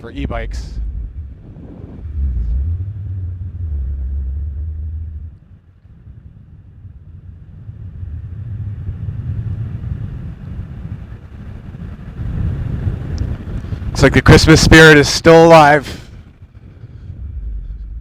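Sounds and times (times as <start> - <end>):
wind buffeting a microphone: 0.0 - 18.0.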